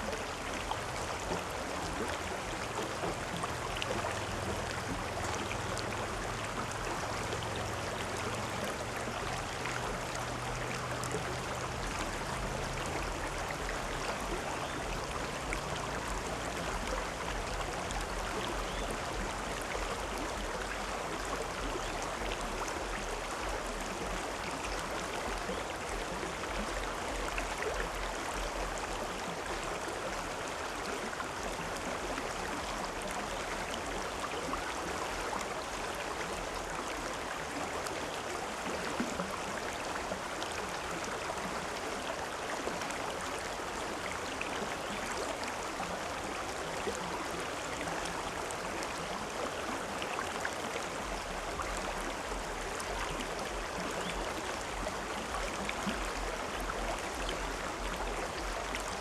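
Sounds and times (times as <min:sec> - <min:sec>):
river rushing and babbling: 0:00.0 - 0:59.0.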